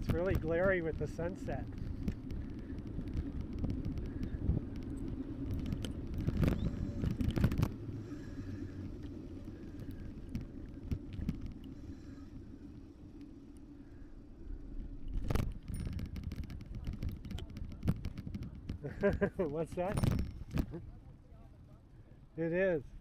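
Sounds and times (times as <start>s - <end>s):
wind rumbling on microphone: 0.0s - 21.3s
tyre and road noise: 0.0s - 21.9s.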